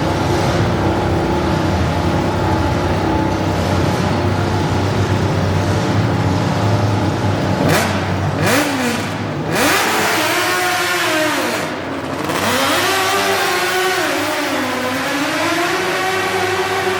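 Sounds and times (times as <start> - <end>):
tractor engine revving: 0.0 - 16.9.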